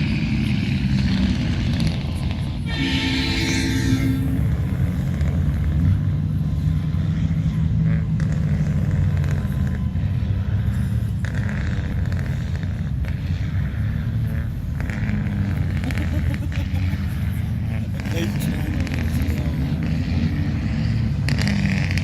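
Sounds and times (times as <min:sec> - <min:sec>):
heavy truck engines rumbling: 0:00.0 - 0:22.0.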